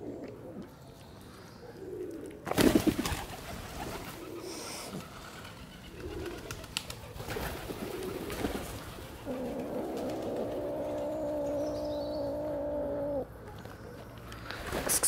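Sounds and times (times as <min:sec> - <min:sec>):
pigeons cooing: 0:00.0 - 0:00.8, 0:01.4 - 0:14.8.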